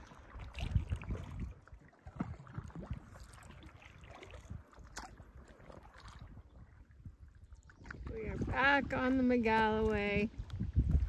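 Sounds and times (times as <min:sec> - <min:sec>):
paddle splashing in water: 0:00.0 - 0:11.0
wind rumble on microphone: 0:00.0 - 0:11.0.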